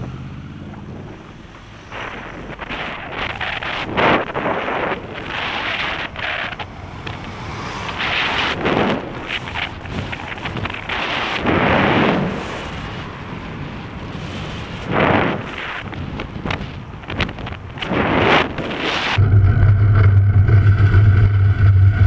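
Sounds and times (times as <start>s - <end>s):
road and traffic noise: 0.0s - 19.2s
wind buffeting microphone: 0.0s - 22.0s.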